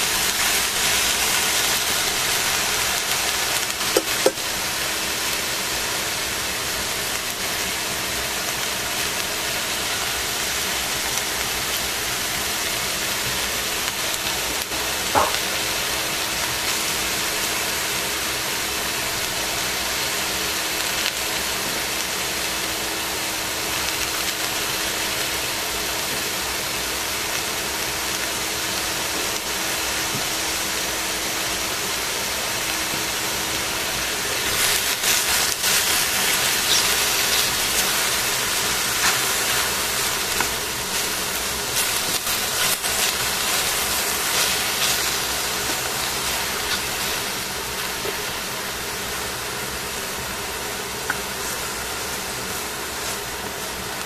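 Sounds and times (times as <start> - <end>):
vegetables sizzling in a pan: 0.0 - 54.0.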